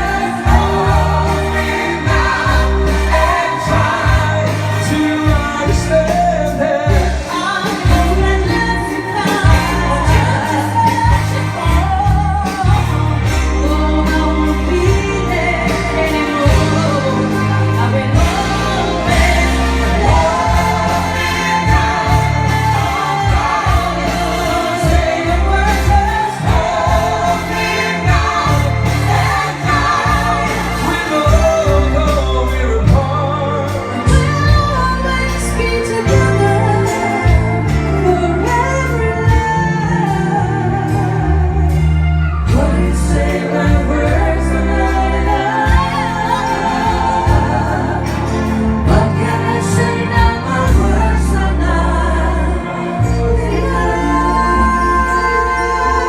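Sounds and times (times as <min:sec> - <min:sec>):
person singing: 0:00.0 - 0:56.0
pop ballad played by band: 0:00.0 - 0:56.0
steady bass notes: 0:00.0 - 0:56.0.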